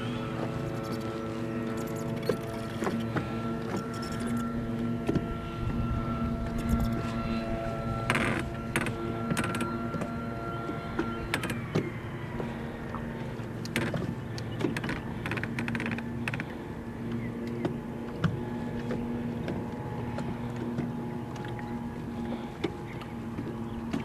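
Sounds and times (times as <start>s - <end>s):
electric trolling motor humming: 0.0s - 24.0s.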